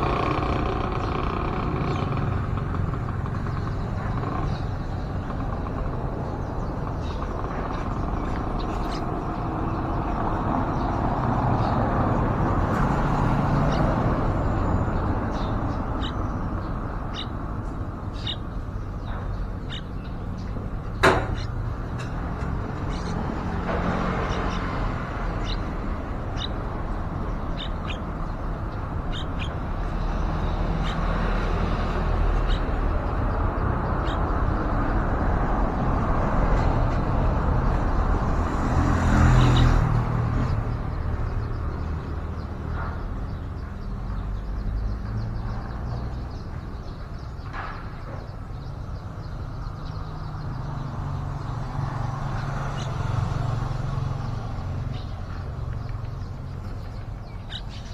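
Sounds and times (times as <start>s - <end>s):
road traffic noise: 0.0s - 57.9s.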